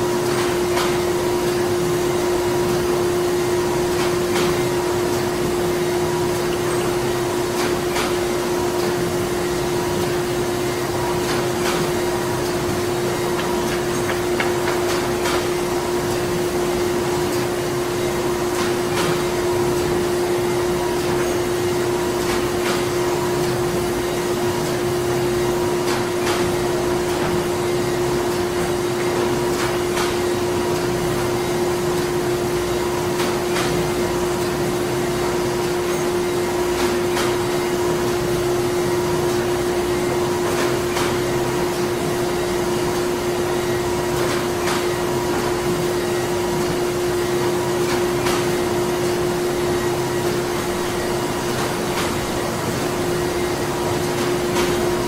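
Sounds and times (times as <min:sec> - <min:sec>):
machinery hum and whir: 0:00.0 - 0:55.0.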